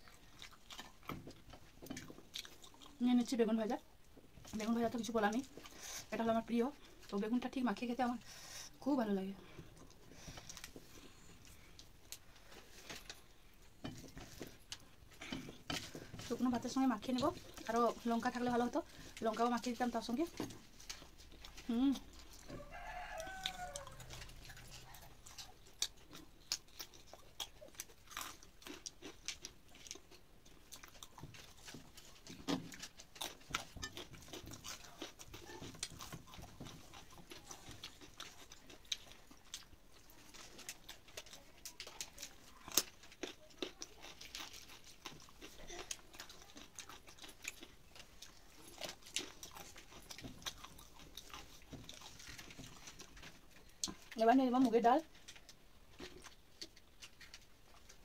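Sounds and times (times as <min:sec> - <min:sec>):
person chewing food: 0:00.0 - 0:03.3, 0:03.9 - 0:07.2, 0:08.2 - 0:58.0.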